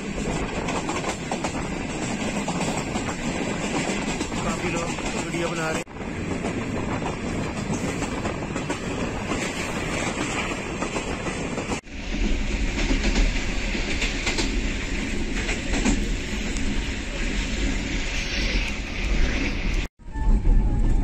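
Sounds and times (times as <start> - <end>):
train running at speed: 0.0 - 21.0.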